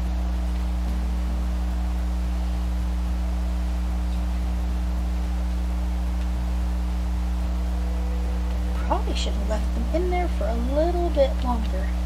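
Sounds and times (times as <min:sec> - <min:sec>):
deep electrical hum: 0:00.0 - 0:12.0.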